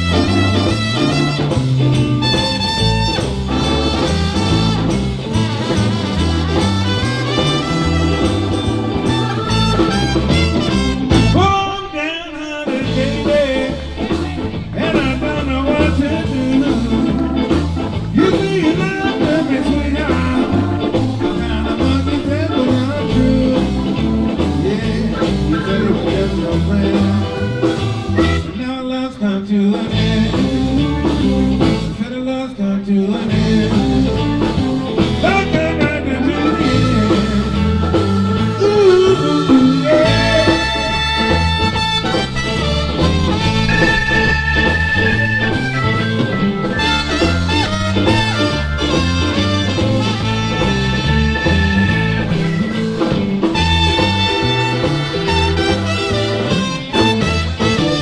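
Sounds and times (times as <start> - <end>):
electric guitar: 0.0 - 58.0
live band through speakers: 0.0 - 58.0.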